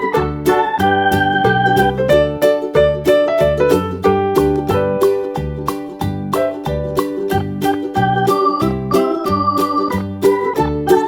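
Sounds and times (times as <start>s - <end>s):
keyboard melody over a beat: 0.0s - 11.0s.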